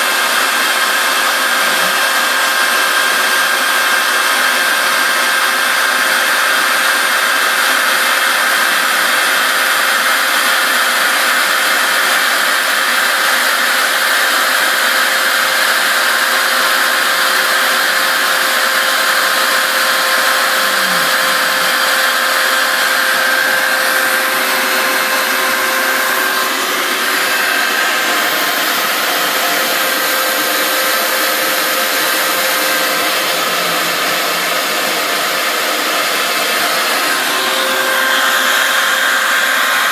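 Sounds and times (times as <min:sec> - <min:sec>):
router spindle whine: 0:00.0 - 0:39.9
shop vac rushing: 0:00.0 - 0:39.9.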